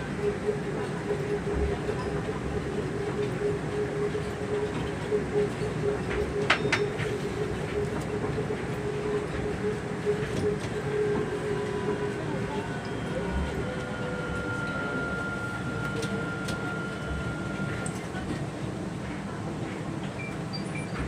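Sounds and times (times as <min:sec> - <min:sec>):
train rumble and whine: 0:00.0 - 0:21.0.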